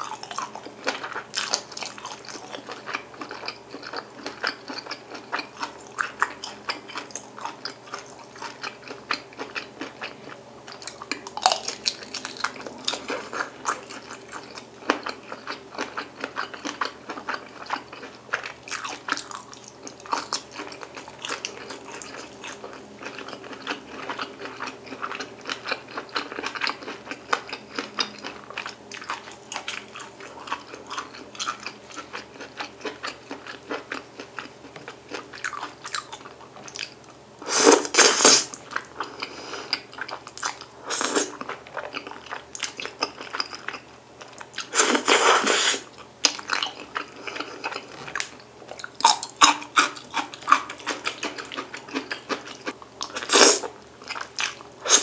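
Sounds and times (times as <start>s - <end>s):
biting and chewing food: 0.0s - 37.0s, 45.9s - 55.0s.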